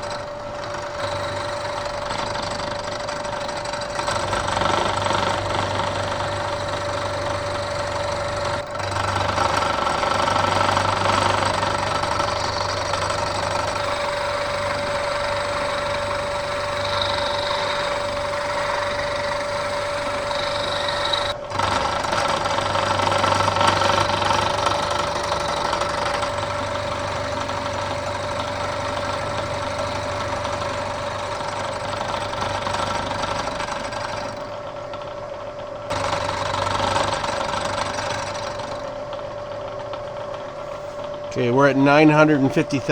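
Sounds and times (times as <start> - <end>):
milling machine cutting metal: 0.0 - 35.2, 35.8 - 42.9.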